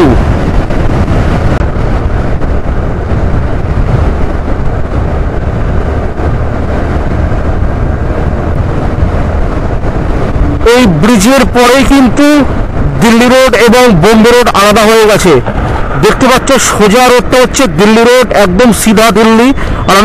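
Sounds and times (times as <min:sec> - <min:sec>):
road and engine noise: 0:00.0 - 0:20.0
wind buffeting microphone: 0:00.0 - 0:20.0.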